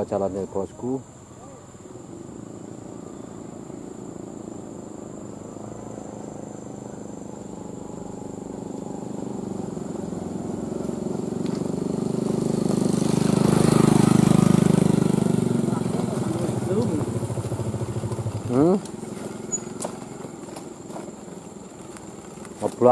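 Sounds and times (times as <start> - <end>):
truck diesel engine under load: 1.9 - 22.9.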